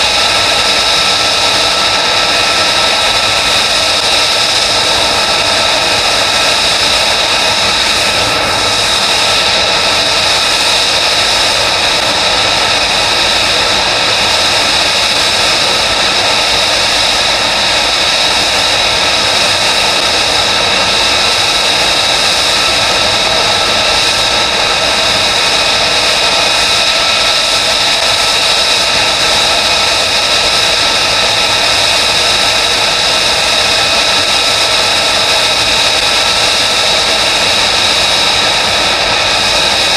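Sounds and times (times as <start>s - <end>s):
jet engine roar with whine: 0.0s - 39.9s.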